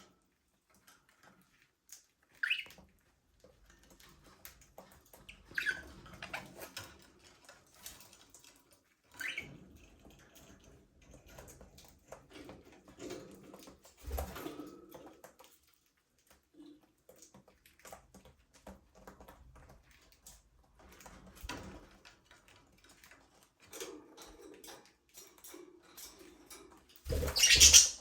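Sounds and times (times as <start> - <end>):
birds tapping and scratching: 0.1 - 28.0.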